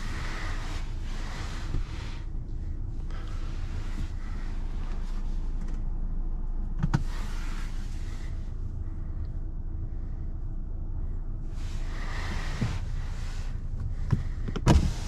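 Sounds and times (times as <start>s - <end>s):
car cabin low rumble: 0.0s - 15.0s.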